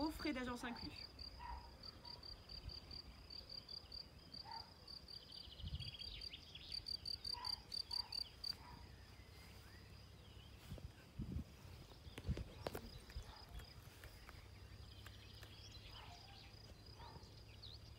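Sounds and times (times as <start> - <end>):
cricket chirping: 0.0 - 10.6, 11.2 - 17.9
faint insect chirps and trills: 0.0 - 17.9.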